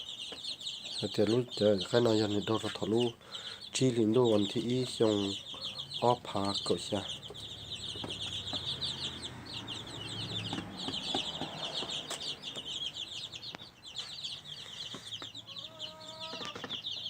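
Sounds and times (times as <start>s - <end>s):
birds chirping in chorus: 0.0s - 17.0s.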